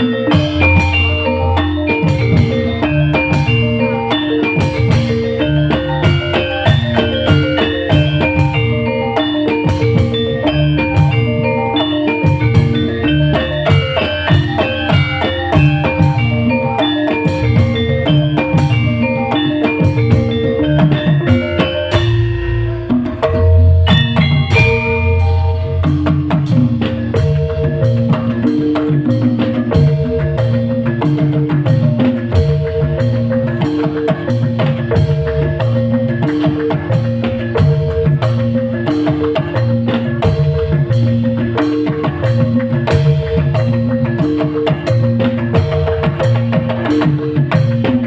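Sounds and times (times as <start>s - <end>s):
bass: 0.0s - 48.0s
drums: 0.0s - 48.0s
keyboard playing busy melody: 0.0s - 48.0s.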